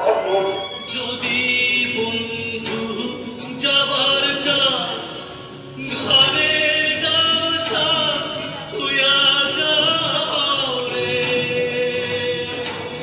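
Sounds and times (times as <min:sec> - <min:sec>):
musical accompaniment: 0:00.0 - 0:13.0.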